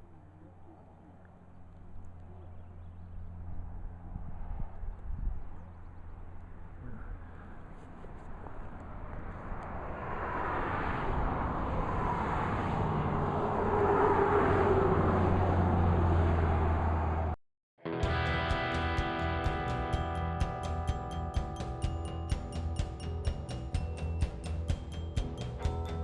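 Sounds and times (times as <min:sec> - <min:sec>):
vehicle engine hum: 0:00.0 - 0:17.4, 0:18.2 - 0:26.0.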